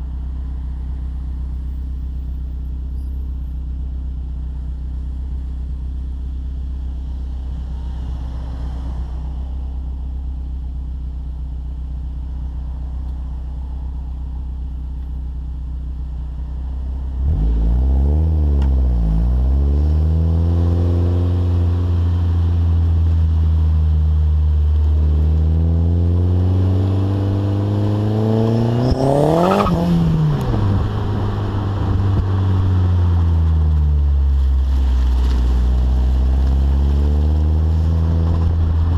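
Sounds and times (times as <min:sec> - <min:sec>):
car exhaust droning and revving: 0:00.0 - 0:38.9.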